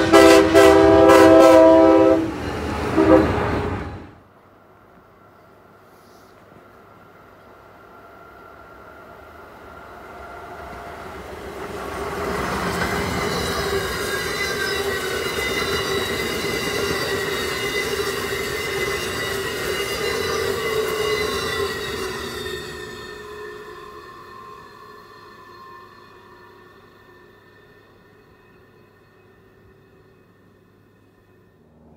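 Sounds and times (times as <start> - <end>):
train whining tones: 0.0 - 4.2, 5.2 - 31.9
passenger train passing at speed: 0.0 - 31.9.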